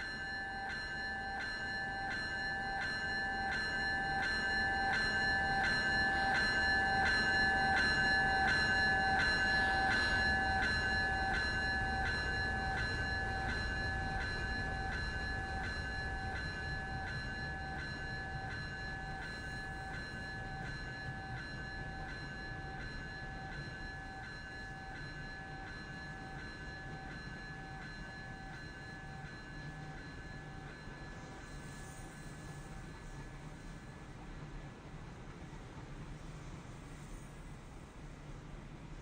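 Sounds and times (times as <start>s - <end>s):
grade-crossing bell ringing: 0.0s - 34.0s.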